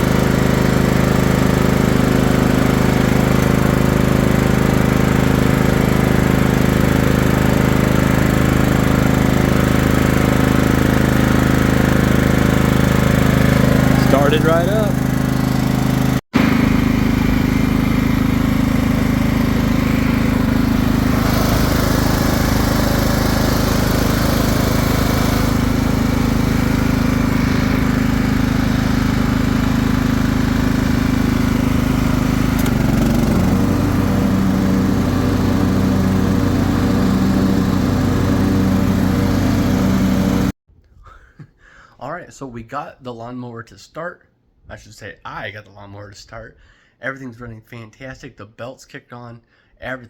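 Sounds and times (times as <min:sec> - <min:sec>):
lawn mower engine running: 0:00.0 - 0:40.6.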